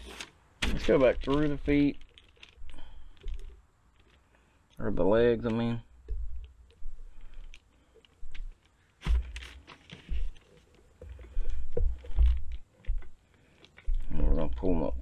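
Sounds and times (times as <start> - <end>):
paper crinkling: 0.0 - 4.6, 6.4 - 14.0.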